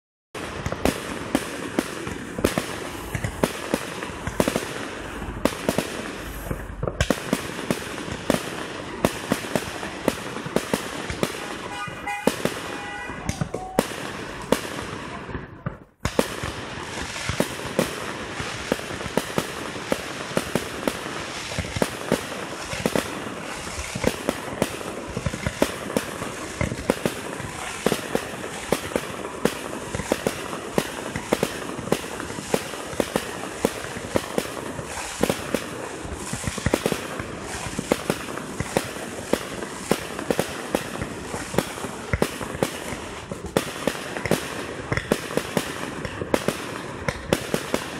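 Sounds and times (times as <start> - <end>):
fireworks bursting and crackling: 0.3 - 47.9.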